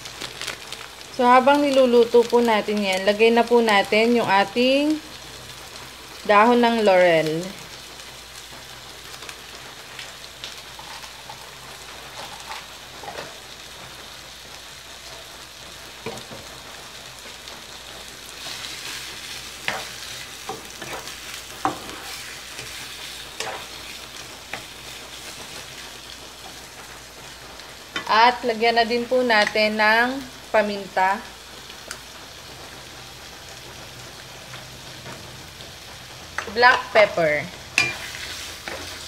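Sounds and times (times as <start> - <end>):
meat sizzling in oil: 0.0 - 39.0.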